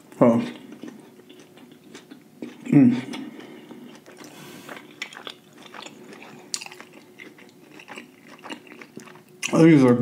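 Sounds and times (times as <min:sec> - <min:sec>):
crunching fried food: 0:00.4 - 0:10.0.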